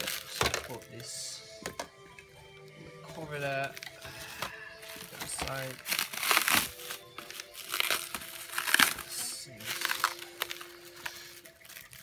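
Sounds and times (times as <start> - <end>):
plastic packaging crinkling: 0.0 - 1.2, 3.2 - 12.0.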